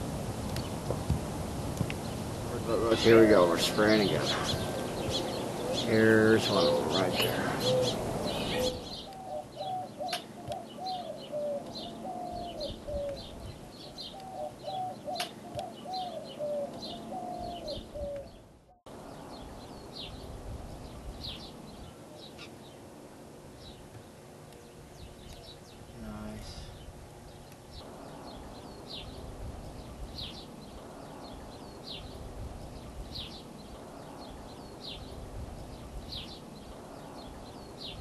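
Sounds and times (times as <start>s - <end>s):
small birds chirping: 1.8s - 38.0s.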